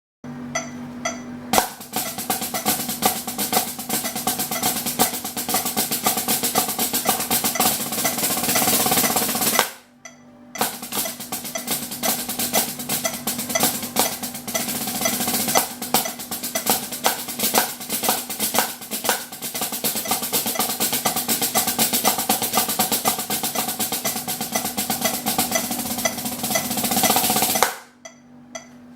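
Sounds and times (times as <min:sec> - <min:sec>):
drumsticks on snare practice pad: 0:00.6 - 0:28.9.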